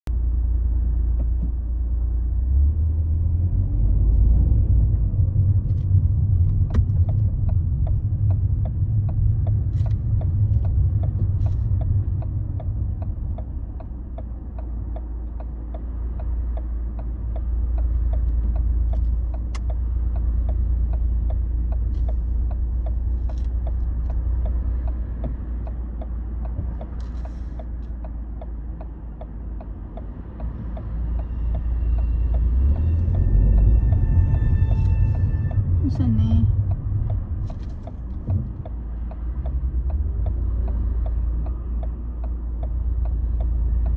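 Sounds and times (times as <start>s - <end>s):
car engine and road rumble: 0.0s - 43.9s
turn signal ticking: 0.1s - 43.9s.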